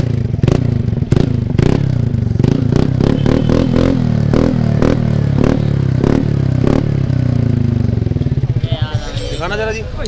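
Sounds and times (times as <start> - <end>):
scooter engine idling and revving: 0.0 - 10.0.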